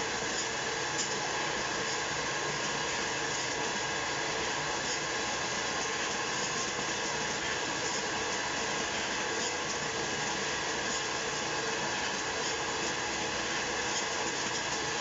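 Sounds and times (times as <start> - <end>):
machine motor and blower whir: 0.0 - 15.0.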